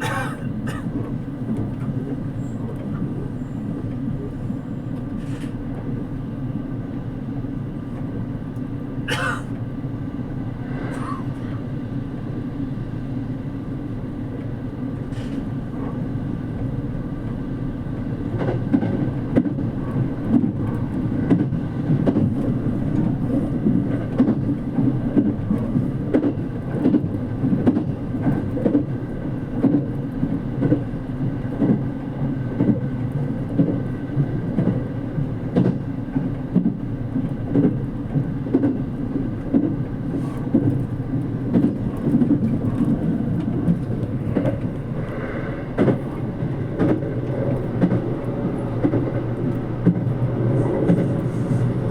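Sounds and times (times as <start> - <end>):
train cabin low rumble: 0.0 - 51.9.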